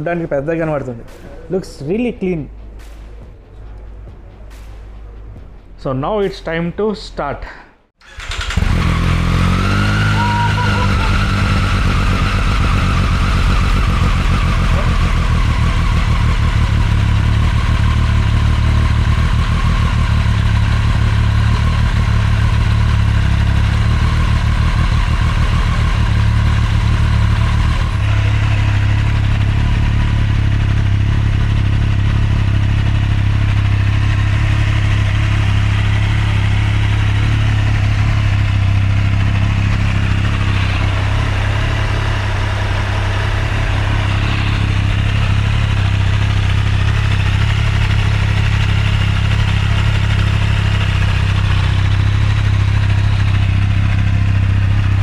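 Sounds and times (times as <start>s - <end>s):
motorcycle engine running: 8.0s - 55.0s.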